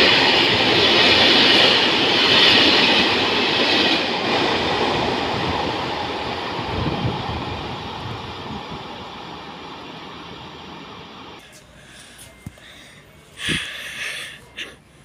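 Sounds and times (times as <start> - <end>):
freight train rolling: 0.0 - 15.0.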